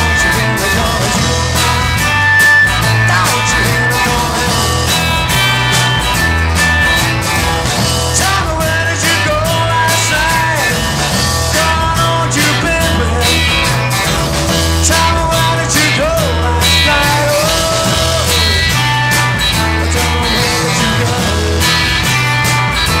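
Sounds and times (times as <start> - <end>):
bending lead guitar notes: 0.0 - 23.0
blues-rock band playing: 0.0 - 23.0.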